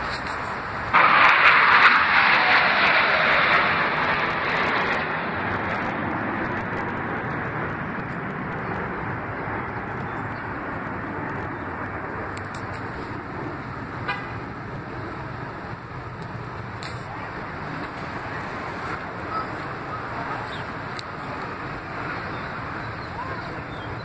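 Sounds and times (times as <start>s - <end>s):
jets passing: 0.0s - 24.0s.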